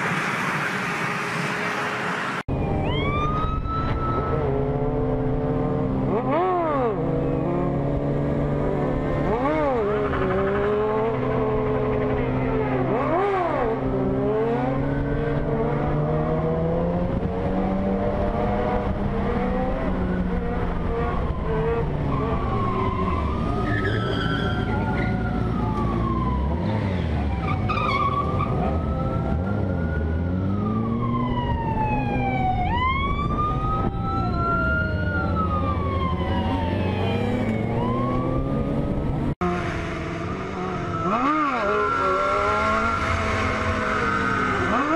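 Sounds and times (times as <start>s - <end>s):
siren wailing: 0.0s - 44.9s
motorcycle engines revving: 3.8s - 44.9s.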